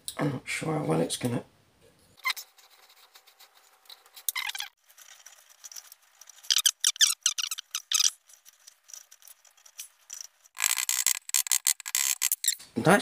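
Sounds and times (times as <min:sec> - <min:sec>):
metal squeaking and scraping: 0:02.2 - 0:12.6.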